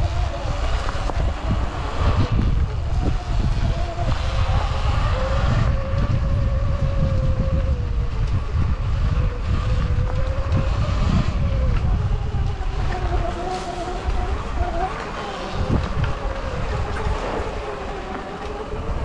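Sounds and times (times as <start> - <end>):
heavy low rumble: 0.0 - 14.8, 15.5 - 17.6
electric motor and drivetrain whine: 0.0 - 19.0.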